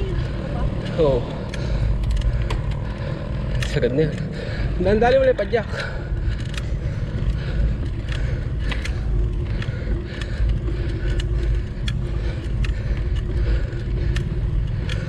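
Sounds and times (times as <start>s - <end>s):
bicycle clicks: 0.0s - 15.0s
wind and tyres rumbling: 0.0s - 15.0s.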